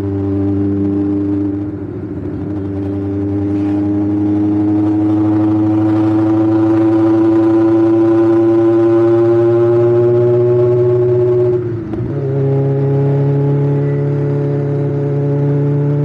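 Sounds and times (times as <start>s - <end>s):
motorcycle engine revs climbing: 0.0s - 16.0s.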